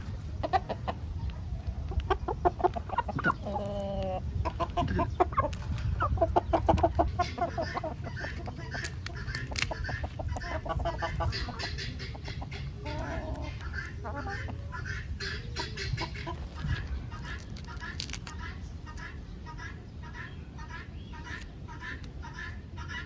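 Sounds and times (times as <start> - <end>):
fowl clucking: 0.0 - 23.0
steady low rumble: 0.0 - 23.0.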